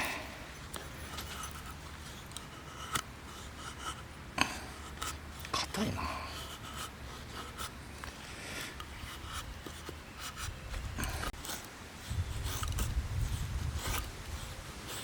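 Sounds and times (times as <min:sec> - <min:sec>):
knife scraping wood: 0:00.0 - 0:15.0.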